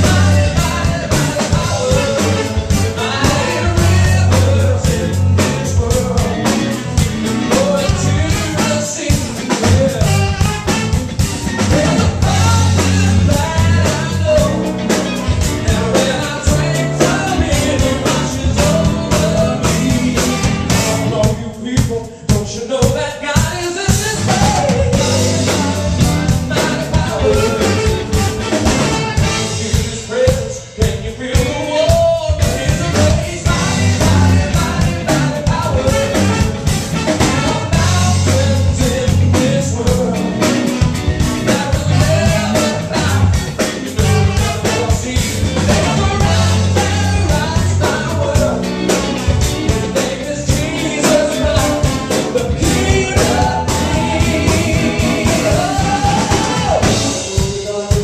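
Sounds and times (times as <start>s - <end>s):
man singing into a microphone: 0.0s - 10.9s, 11.6s - 58.0s
saxophones and trombone: 0.0s - 21.4s, 24.3s - 30.1s, 32.5s - 58.0s
live rock band playing: 0.0s - 58.0s.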